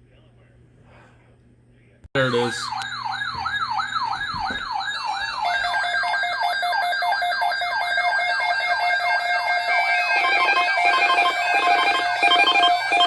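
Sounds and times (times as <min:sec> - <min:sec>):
electronic yelp siren: 0:02.2 - 0:13.0
steady high alarm tones: 0:02.2 - 0:13.0.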